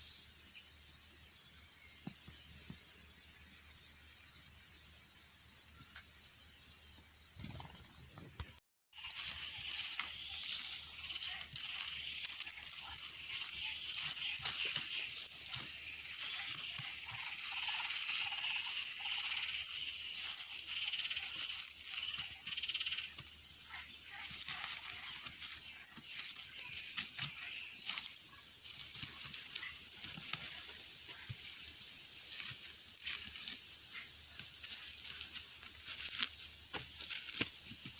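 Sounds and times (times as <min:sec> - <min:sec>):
frogs croaking: 0:07.4 - 0:37.9.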